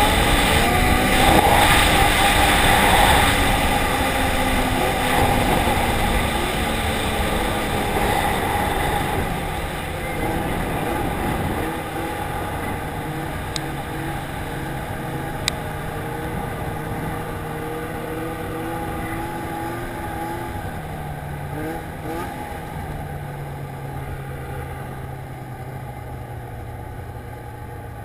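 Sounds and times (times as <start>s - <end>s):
snowmobile engine and track noise: 0.0s - 28.0s.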